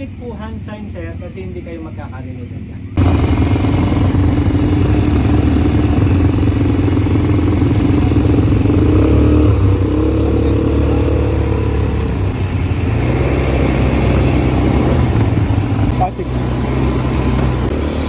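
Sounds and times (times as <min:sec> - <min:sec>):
atv engine running: 0:03.0 - 0:18.0.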